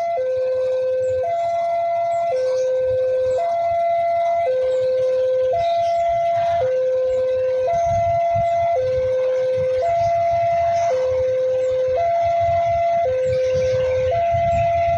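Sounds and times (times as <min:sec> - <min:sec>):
level crossing two-tone alarm: 0:00.0 - 0:14.9.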